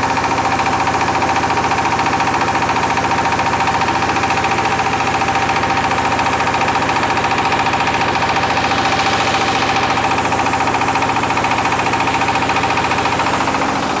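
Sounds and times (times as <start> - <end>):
rice milling machine humming: 0.0 - 14.0.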